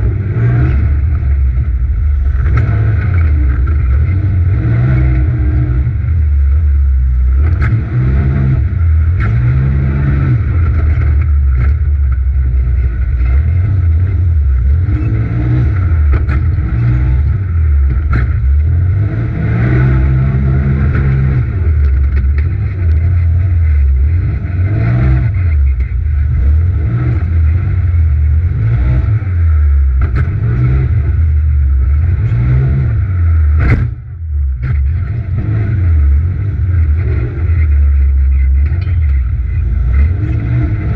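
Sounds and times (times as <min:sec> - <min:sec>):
engine revving: 0:00.0 - 0:40.9.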